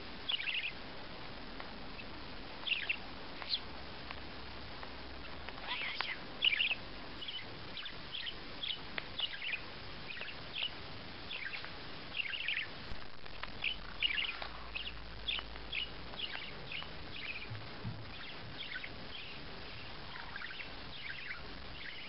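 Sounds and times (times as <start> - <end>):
steady background hiss: 0.0 - 22.0
small bird chirping: 0.2 - 0.8, 1.8 - 4.2, 5.1 - 22.0.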